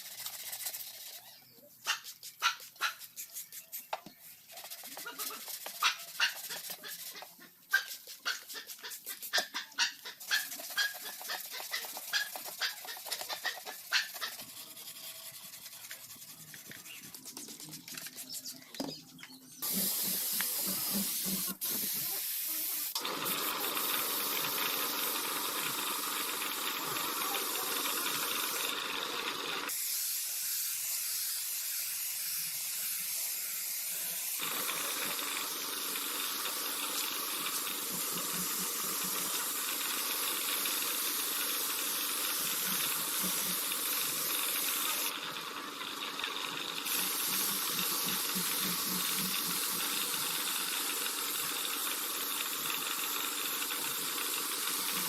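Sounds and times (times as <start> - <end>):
paint spray gun hissing: 7.8 - 17.2, 19.6 - 55.0.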